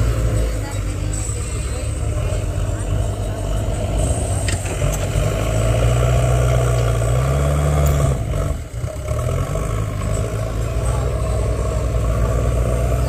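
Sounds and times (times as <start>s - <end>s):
backhoe diesel engine running: 0.0s - 13.0s.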